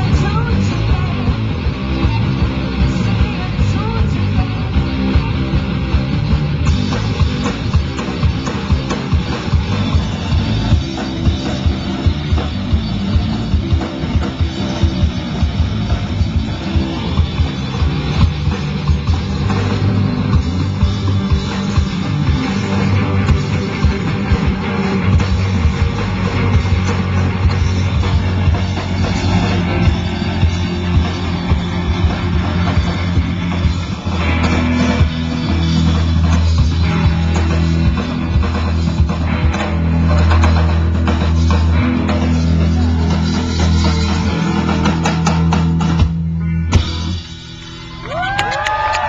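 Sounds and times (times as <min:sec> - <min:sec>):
fast drum-kit beat: 0:00.0 - 0:48.3
electric guitar: 0:00.0 - 0:49.0
heavy bass line: 0:00.0 - 0:49.0
rock band playing: 0:00.0 - 0:49.0.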